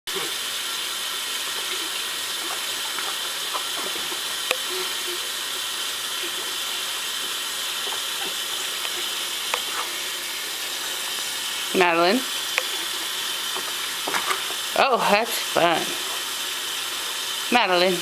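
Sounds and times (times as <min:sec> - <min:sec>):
baby splashing bath water: 0:00.1 - 0:18.0
steady hiss: 0:00.1 - 0:18.0.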